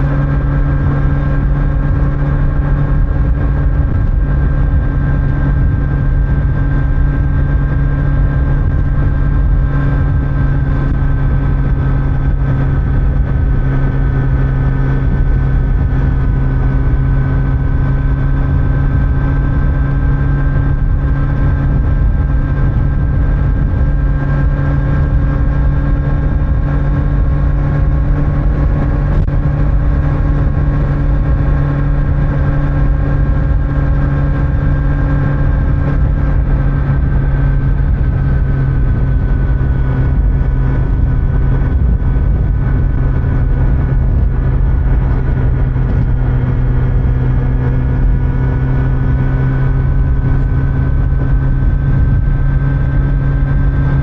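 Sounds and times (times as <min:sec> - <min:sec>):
motorcycle engine cruising: 0:00.0 - 0:54.0
wind and road rumble: 0:00.0 - 0:54.0.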